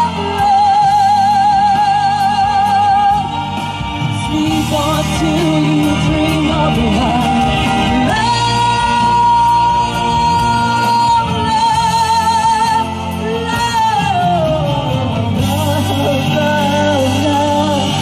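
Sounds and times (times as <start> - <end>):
backing music: 0.0 - 18.0.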